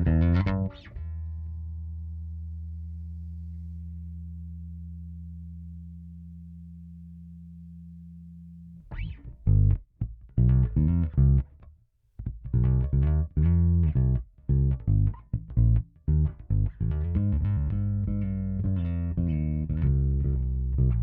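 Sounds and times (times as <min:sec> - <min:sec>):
electric bass playing: 0:00.0 - 0:21.0.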